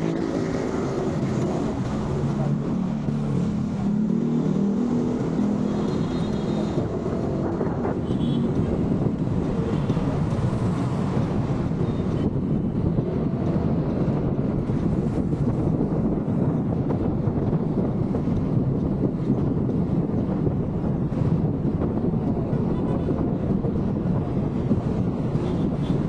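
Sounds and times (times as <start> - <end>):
motorcycle engine and road noise: 0.0 - 26.0.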